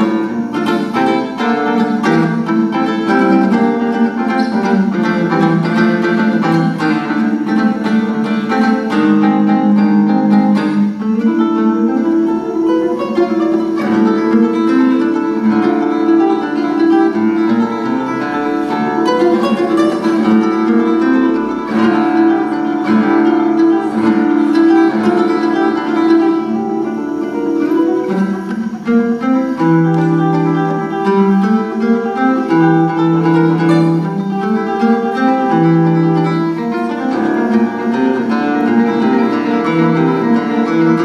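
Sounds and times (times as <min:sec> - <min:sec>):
classical guitar fingerstyle: 0:00.0 - 0:41.0.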